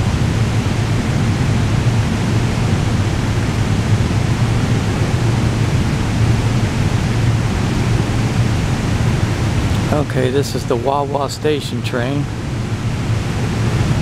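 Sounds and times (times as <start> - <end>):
constant low hum: 0.0 - 14.0
underground station rumble and hiss: 0.0 - 14.0.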